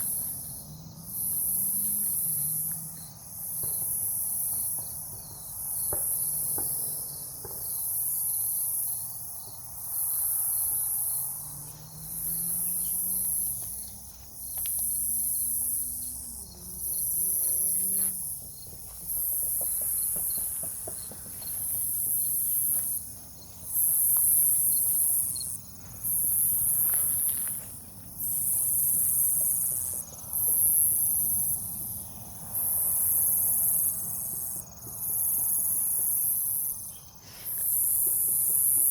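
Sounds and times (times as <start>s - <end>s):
high insect trill: 0.0s - 38.9s
insects buzzing in pulses: 0.0s - 38.9s.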